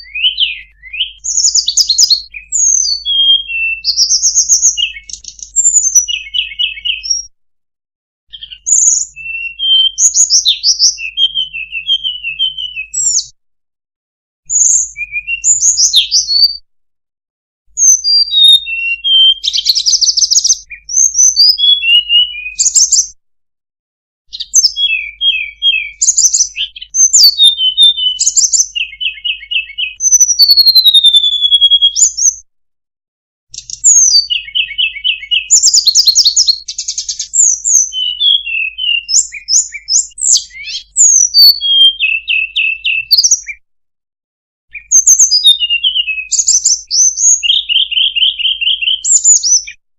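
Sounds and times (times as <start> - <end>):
recorded songbird chirps and trills: 0.0 - 7.4, 8.3 - 13.4, 14.4 - 16.6, 17.7 - 23.2, 24.3 - 32.5, 33.5 - 43.6, 44.7 - 49.8.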